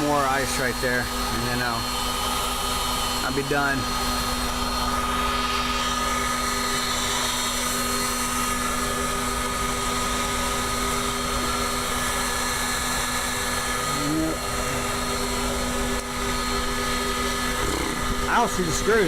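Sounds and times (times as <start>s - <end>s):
heat guns whining and blowing: 0.0s - 19.0s.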